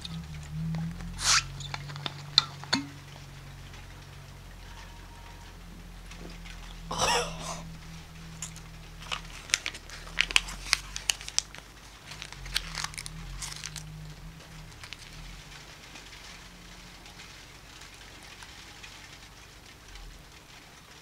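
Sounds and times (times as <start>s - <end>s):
paper crackling while chewed: 0.0s - 21.0s.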